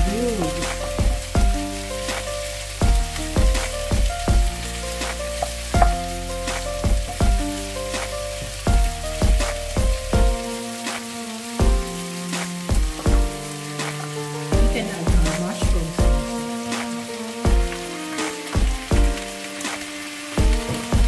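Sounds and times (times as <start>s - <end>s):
background music with bass beat: 0.0s - 21.0s
food sizzling in a frying pan: 0.0s - 21.0s.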